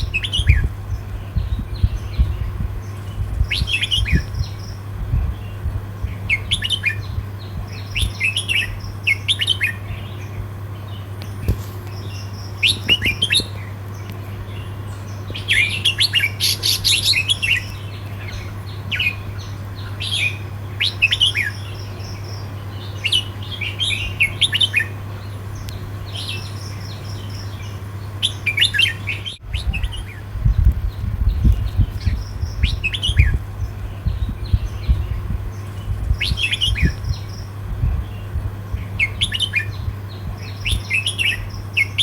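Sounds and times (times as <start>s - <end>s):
birds chirping: 0.0s - 42.0s
steady low hum: 0.0s - 42.0s.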